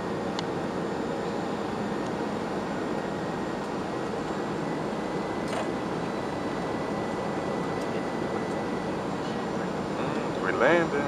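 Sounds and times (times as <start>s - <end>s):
airliner cabin engine rush: 0.0s - 11.0s
faint high whine: 0.0s - 11.0s.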